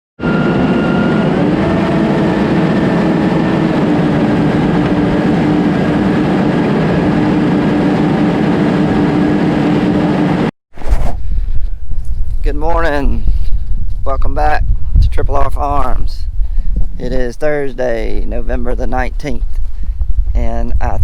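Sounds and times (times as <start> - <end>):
high whine: 0.2 - 21.0.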